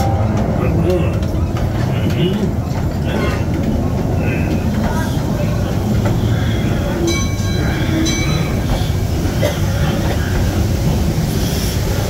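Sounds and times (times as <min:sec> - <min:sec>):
ride cars rumbling on track: 0:00.0 - 0:12.0.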